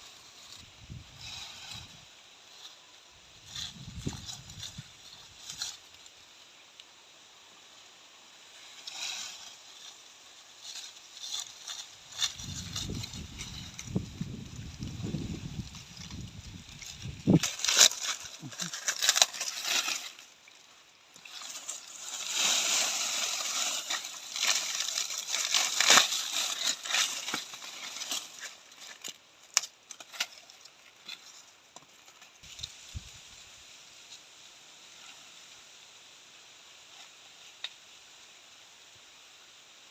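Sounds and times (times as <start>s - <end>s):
dry corn plants rustling: 0.0s - 39.9s.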